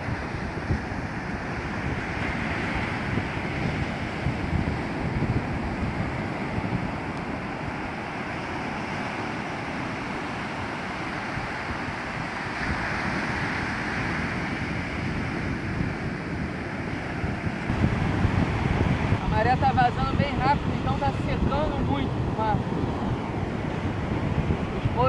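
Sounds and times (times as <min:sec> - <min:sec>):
ocean surf breaking on beach: 0:00.0 - 0:25.0
wind buffeting microphone: 0:00.0 - 0:25.0.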